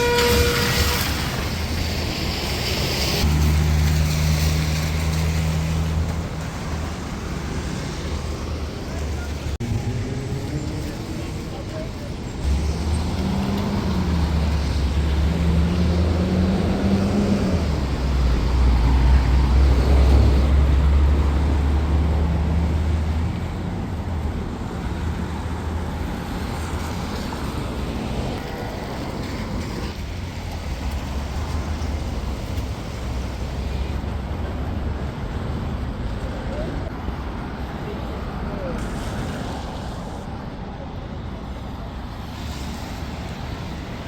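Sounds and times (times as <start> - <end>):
large vehicle engine humming: 0.0 - 44.0
street traffic: 0.0 - 44.0.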